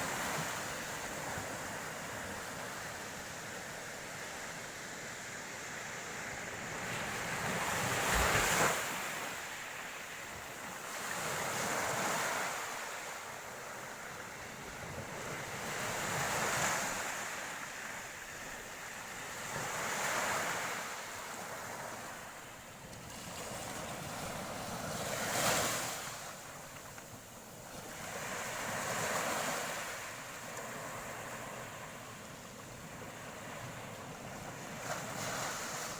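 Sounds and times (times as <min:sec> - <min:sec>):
sea waves breaking on shore: 0:06.8 - 0:35.9.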